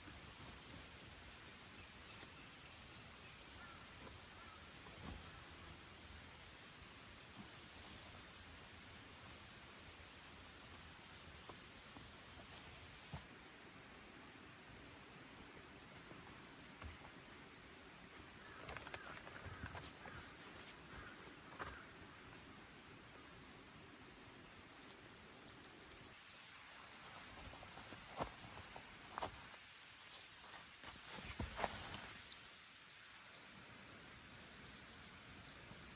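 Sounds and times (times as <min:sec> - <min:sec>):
insects chorus: 0:00.0 - 0:35.9.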